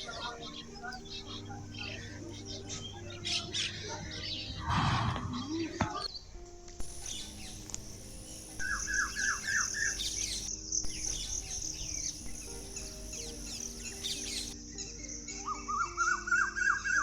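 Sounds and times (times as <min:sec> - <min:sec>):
bird downward-slurred notes: 0:00.0 - 0:17.0
small birds chirping: 0:00.0 - 0:17.0.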